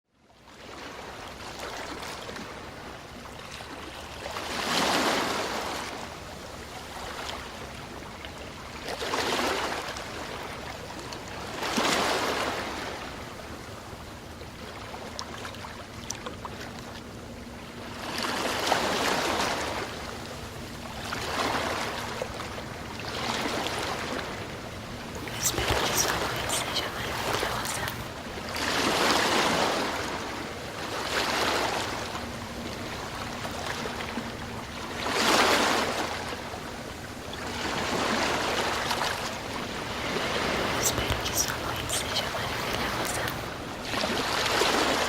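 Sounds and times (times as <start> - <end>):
ocean waves breaking on shore: 0.5 - 15.8, 16.4 - 45.0.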